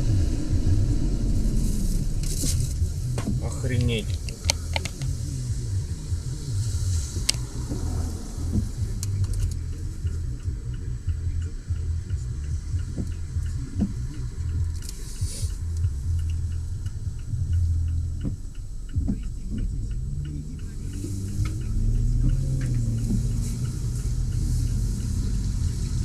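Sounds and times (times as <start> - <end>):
vehicle rumble from inside cab: 0.0 - 26.0
faint light ticking: 0.1 - 26.0.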